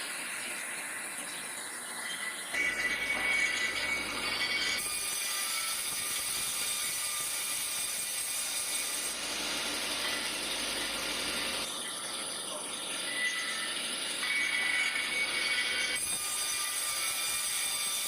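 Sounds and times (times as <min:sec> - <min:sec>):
thin machine whine: 0:00.0 - 0:18.0.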